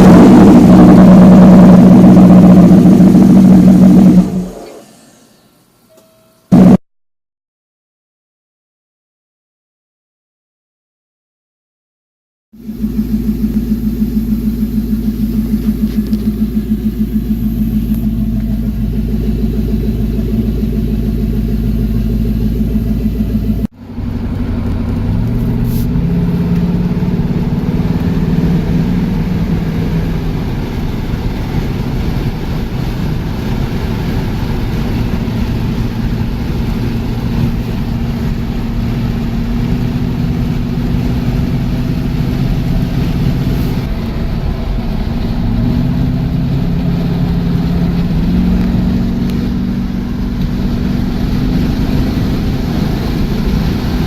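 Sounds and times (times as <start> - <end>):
car engine idling: 0.0 - 5.4, 12.6 - 54.0.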